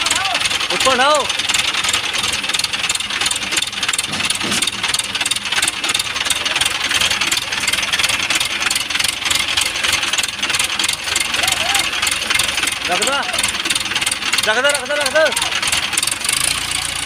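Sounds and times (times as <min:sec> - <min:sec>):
crane diesel engine running: 0:00.0 - 0:17.0.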